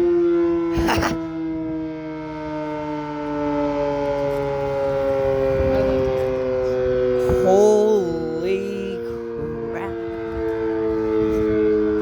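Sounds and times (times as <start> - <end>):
warning siren falling chord: 0.0 - 12.0.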